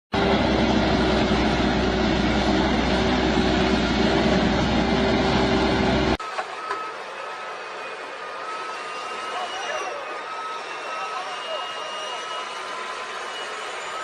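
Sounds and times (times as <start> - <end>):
heavy machine humming loudly: 0.1 - 14.0.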